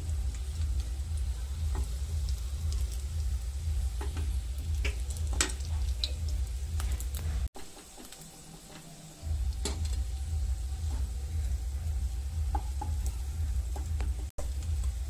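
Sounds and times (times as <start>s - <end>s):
steady low hum: 0.0s - 7.5s, 9.0s - 15.0s
frying in hot oil: 0.0s - 15.0s.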